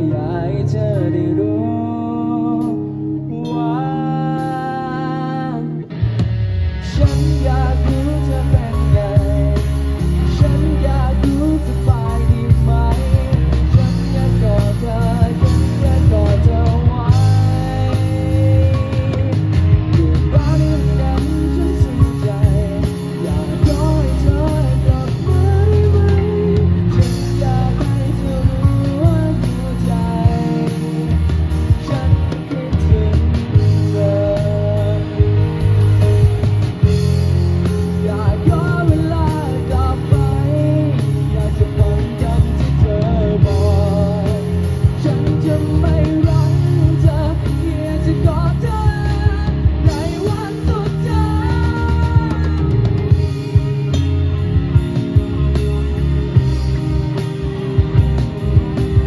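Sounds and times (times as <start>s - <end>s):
live pop rock band playing: 0.0s - 59.0s.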